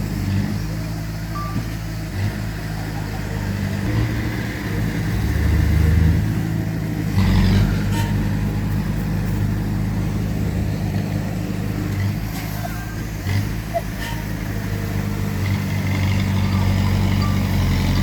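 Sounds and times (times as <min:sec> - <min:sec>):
heavy machinery diesel engines: 0:00.0 - 0:18.0.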